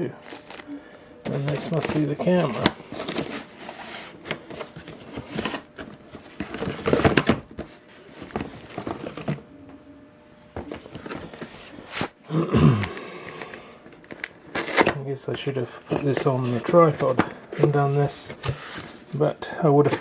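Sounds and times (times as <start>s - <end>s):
packaging rustling and crinkling: 0.0s - 9.5s, 10.6s - 12.2s, 12.8s - 20.0s.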